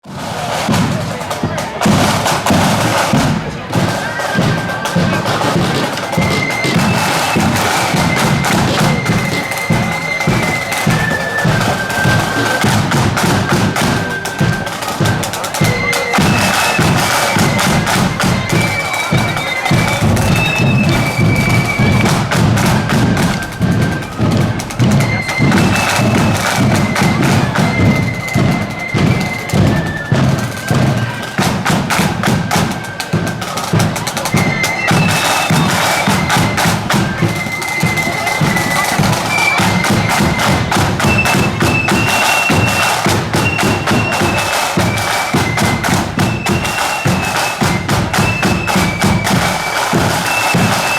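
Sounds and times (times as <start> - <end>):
rapid snare drumming: 0.0 - 50.9
flute melody: 0.1 - 50.9.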